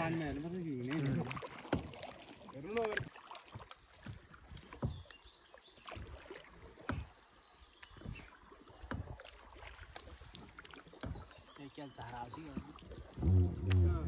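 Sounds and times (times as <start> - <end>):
paddle strokes in water: 0.0 - 14.0.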